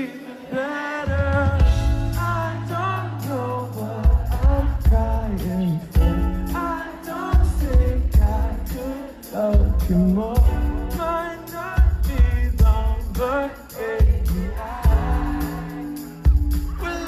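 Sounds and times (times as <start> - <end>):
man singing pop song: 0.0 - 17.0
backing band with heavy bass: 1.1 - 17.0.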